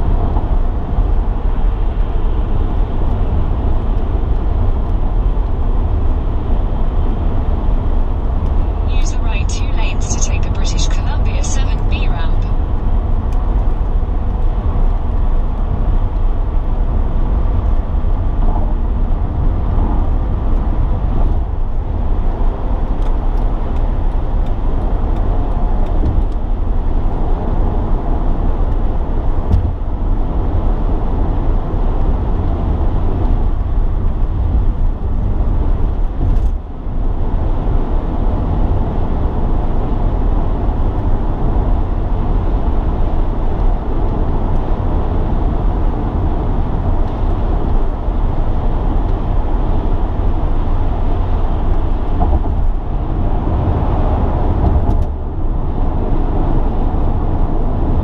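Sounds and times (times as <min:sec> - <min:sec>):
car cabin road and engine noise: 0:00.0 - 0:58.0.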